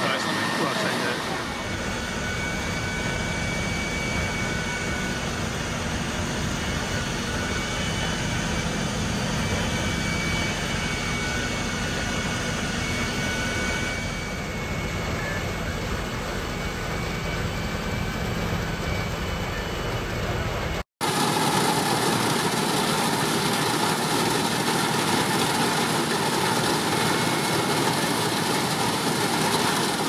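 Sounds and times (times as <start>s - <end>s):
fire engine pumps droning: 0.0s - 30.0s.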